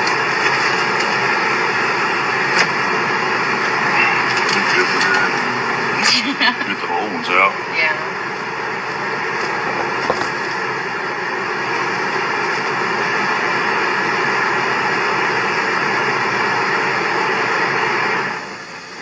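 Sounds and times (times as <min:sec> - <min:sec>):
loud rushing noise: 0:00.0 - 0:18.6.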